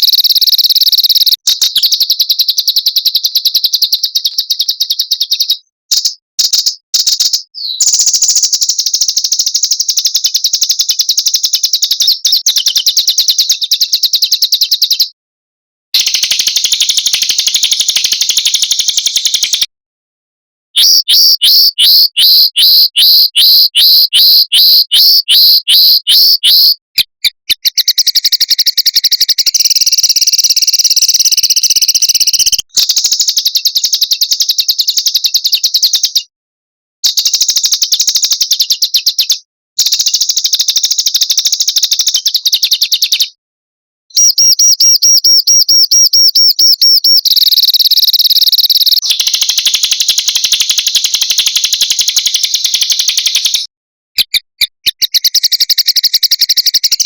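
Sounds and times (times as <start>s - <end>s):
sharp repeated bird notes: 0.0s - 15.2s, 16.0s - 19.7s, 20.8s - 36.3s, 44.1s - 57.0s.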